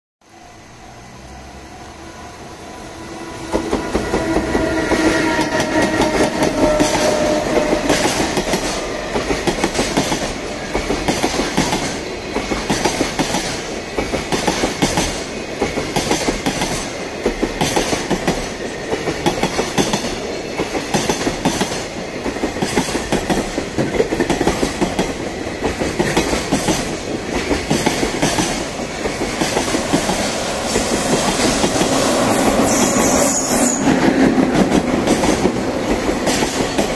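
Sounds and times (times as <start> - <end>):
second freight train approaching: 0.2 - 36.9.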